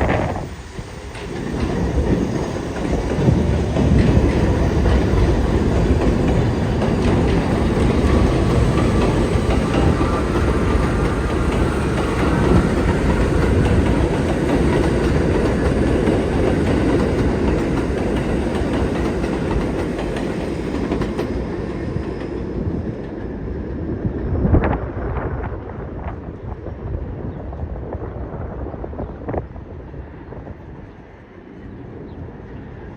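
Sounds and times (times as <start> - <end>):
train wheels rumbling on rail: 0.0 - 32.9.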